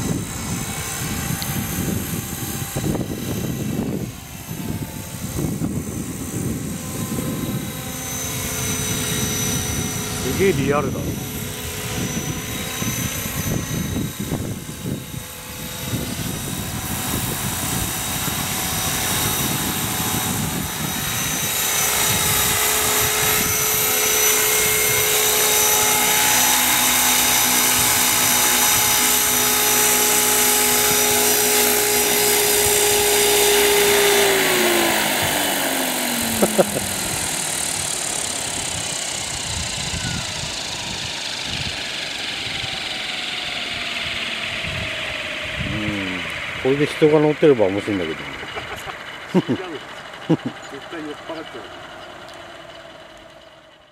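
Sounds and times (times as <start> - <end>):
model helicopter engine and rotor whining: 0.0 - 53.9.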